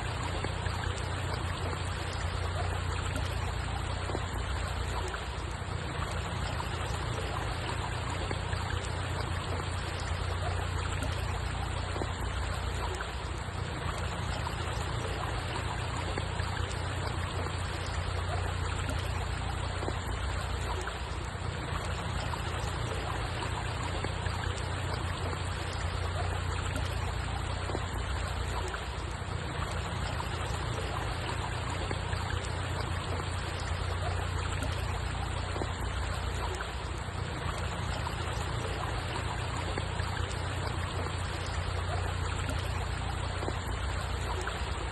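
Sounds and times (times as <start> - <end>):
water flowing with low rumble: 0.0 - 44.9.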